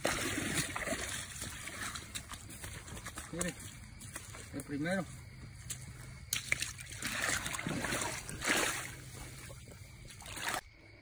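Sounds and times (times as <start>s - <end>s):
water splashing in shallows: 0.0s - 4.6s, 5.6s - 10.7s.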